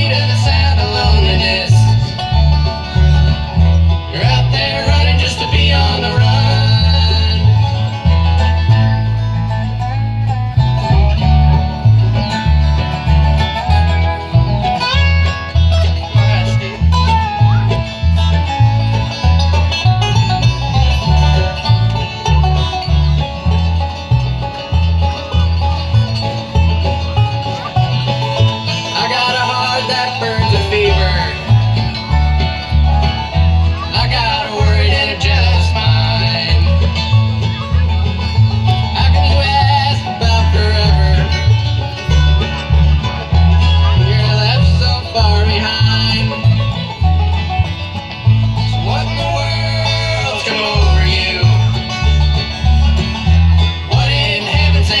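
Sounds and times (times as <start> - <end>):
banjo picking: 0.0 - 55.0
guitar picking: 0.0 - 55.0
pulsing bass line: 0.0 - 55.0.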